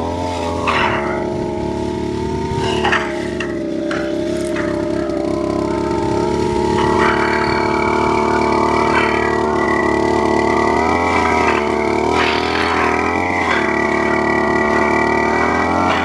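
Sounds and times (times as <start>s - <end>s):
brush cutter engine high revs: 0.0s - 16.0s.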